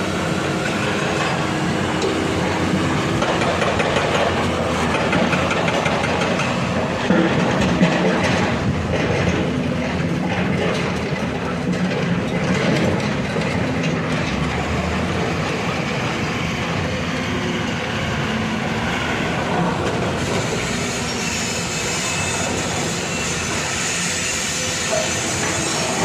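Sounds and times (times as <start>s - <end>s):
heavy diesel machinery rumbling: 0.0s - 26.0s.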